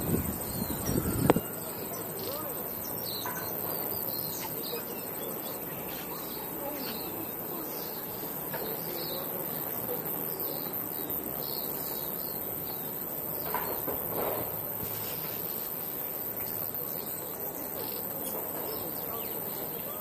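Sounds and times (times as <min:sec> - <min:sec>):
small birds chirping: 0:00.0 - 0:13.9, 0:15.1 - 0:20.0
high-pitched hiss or trill: 0:00.0 - 0:19.8.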